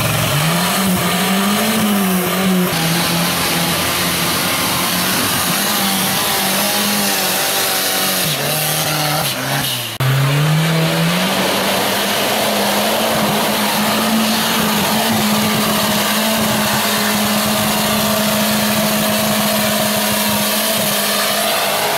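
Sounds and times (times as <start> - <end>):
buggy churning through mud: 0.0 - 21.9
buggy engine revving: 0.0 - 21.9.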